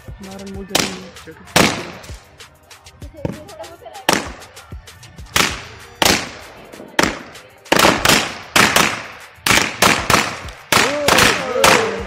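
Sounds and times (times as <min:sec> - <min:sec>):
firecrackers banging: 0:00.7 - 0:02.4, 0:03.2 - 0:12.0.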